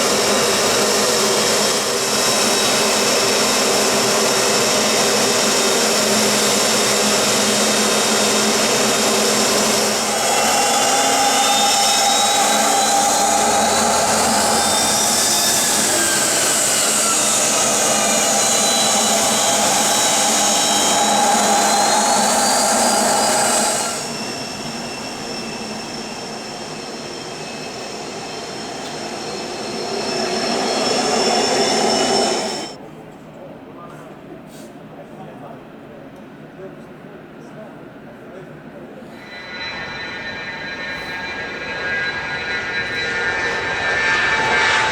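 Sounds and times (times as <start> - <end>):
high turbine whine: 0.0 - 32.8, 39.1 - 44.9
jet engines rushing: 0.0 - 32.8, 39.2 - 44.9.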